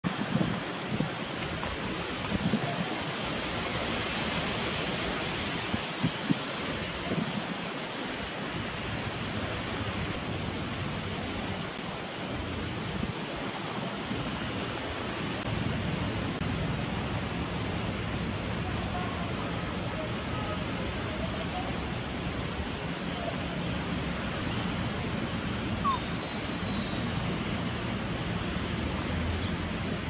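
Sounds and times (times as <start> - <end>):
shrill outdoor hiss: 0.0 - 30.0.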